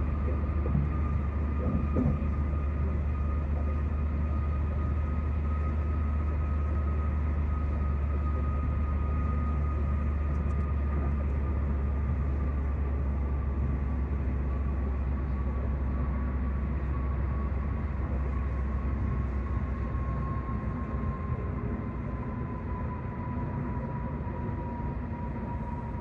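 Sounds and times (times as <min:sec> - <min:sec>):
car road noise low rumble: 0:00.0 - 0:26.0.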